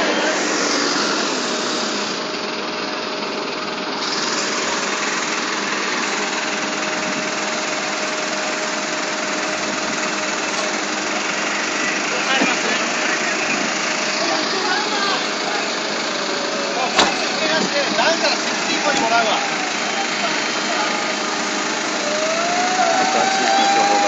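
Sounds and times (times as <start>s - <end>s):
fire truck pump running: 0.0s - 24.0s.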